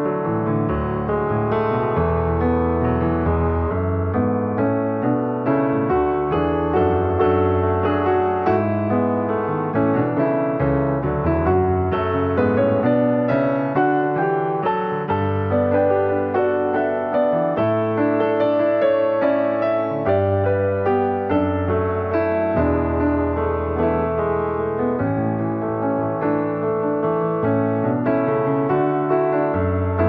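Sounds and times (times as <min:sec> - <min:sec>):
low bass piano notes: 0:00.0 - 0:30.0
piano music: 0:00.0 - 0:30.0.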